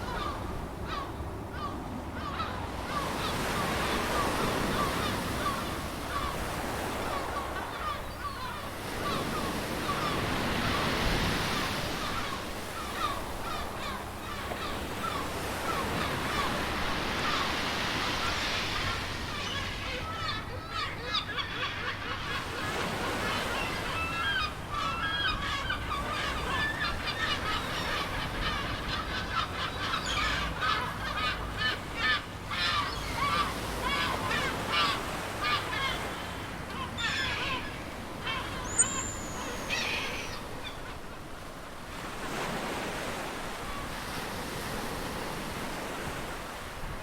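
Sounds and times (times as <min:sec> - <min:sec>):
flock of birds calling: 0:00.0 - 0:41.2
ocean surf: 0:00.0 - 0:47.0.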